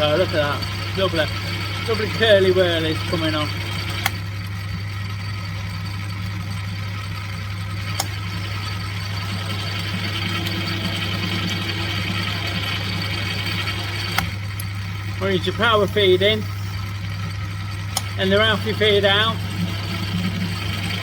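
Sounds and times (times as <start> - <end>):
metal lathe humming: 0.0 - 21.0.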